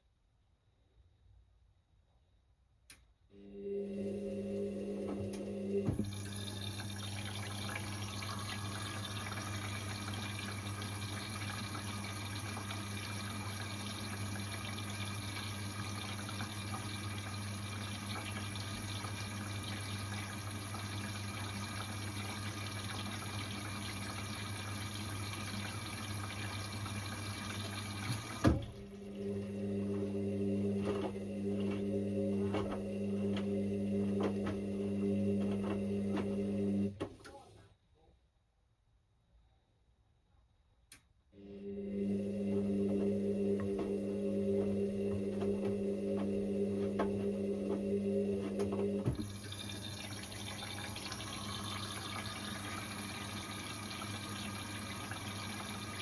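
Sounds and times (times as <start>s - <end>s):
electrical hum: 3.4s - 37.5s, 41.4s - 56.0s
water rushing into washing machine: 3.4s - 37.6s, 41.4s - 56.0s
motor hum with light clicks: 4.7s - 37.5s, 40.9s - 56.0s.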